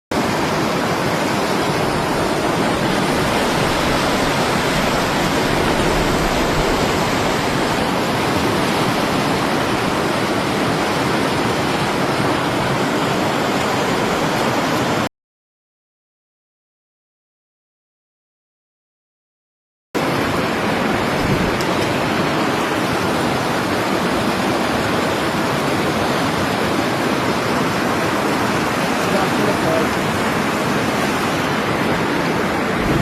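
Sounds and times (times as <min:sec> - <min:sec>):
rushing water: 0:00.1 - 0:15.1, 0:20.0 - 0:33.0.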